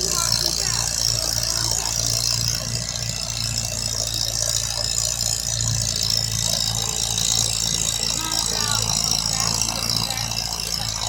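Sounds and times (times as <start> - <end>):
vehicle engine idling with rattle: 0.0 - 11.0.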